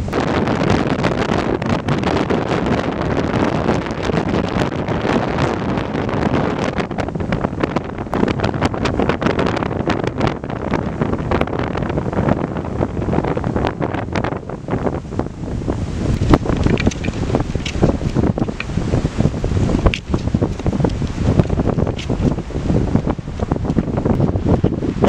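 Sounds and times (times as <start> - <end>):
surf breaking on beach: 0.0 - 25.0
wind buffeting microphone: 0.0 - 25.0.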